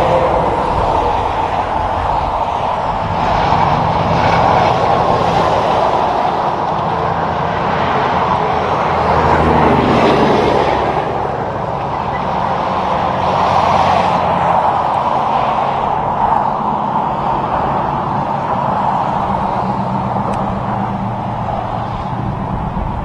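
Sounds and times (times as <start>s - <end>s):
diesel engines humming: 0.0s - 23.0s
tyre noise of passing traffic: 0.0s - 23.0s.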